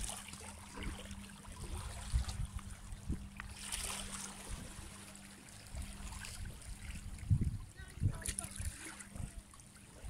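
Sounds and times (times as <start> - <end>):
waves lapping against rocks: 0.0 - 10.0.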